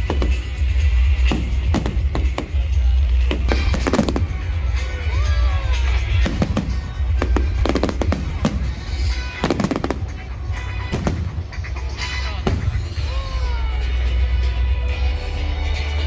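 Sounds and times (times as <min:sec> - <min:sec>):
fireworks bursting with bangs: 0:00.0 - 0:13.0
music playing: 0:00.0 - 0:16.0.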